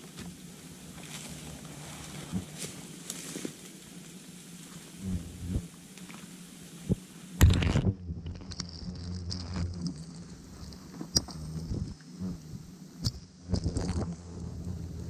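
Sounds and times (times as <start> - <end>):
low steady hum: 0.0 - 15.0
papery wasp nest rustling and crackling: 0.0 - 15.0.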